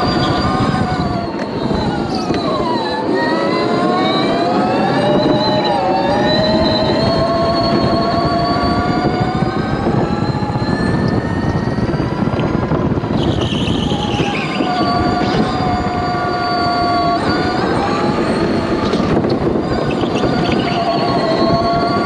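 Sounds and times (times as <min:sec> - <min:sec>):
electric motor whining: 0:00.0 - 0:22.0
heavy rumble: 0:00.0 - 0:22.0
high squeal falling in pitch: 0:00.0 - 0:22.0.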